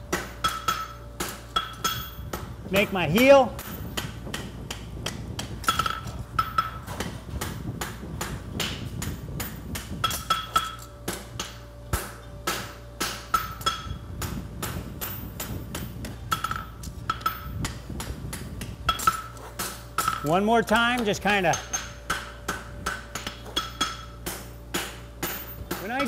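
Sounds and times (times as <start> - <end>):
hammer striking metal on anvil: 0.1 - 2.2, 3.6 - 26.0.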